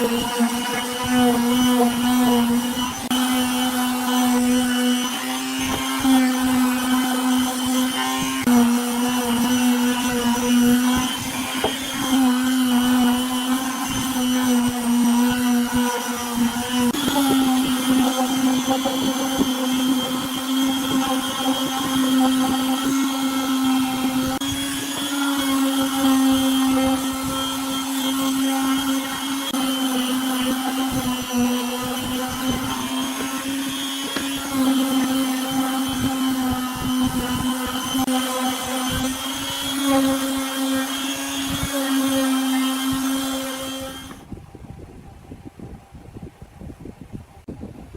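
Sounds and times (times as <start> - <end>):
power tool motor humming: 0.0 - 44.3.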